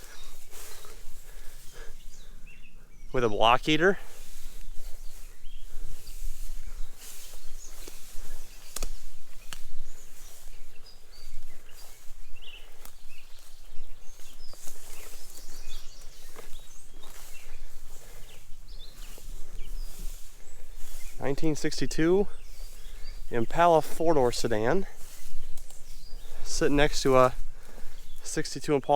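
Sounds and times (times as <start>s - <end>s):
bird chirps: 0.0s - 28.9s
footsteps crunching: 0.0s - 28.9s.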